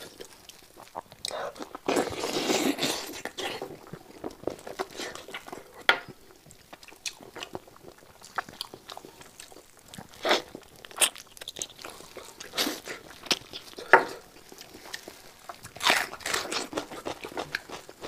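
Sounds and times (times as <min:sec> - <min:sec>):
close-miked chewing and biting: 0:00.0 - 0:18.0.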